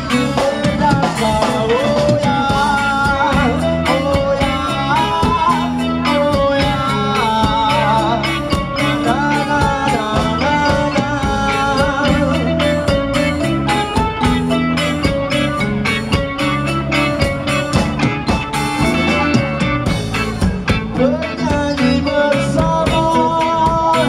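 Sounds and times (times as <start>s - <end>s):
live rock band playing: 0.0s - 24.0s
person singing: 0.0s - 24.0s.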